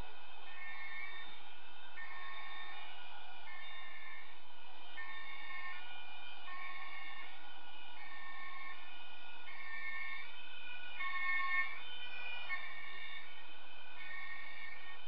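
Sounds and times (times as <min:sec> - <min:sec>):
two-tone emergency siren: 0:00.0 - 0:15.0.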